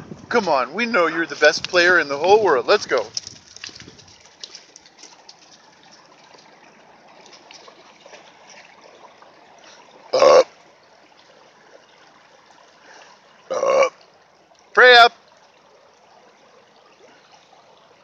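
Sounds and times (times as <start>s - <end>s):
creek water trickling: 0.0s - 18.0s.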